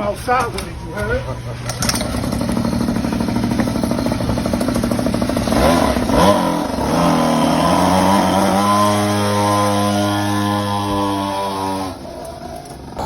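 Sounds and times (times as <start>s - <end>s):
engine idling and revving: 1.4s - 13.0s.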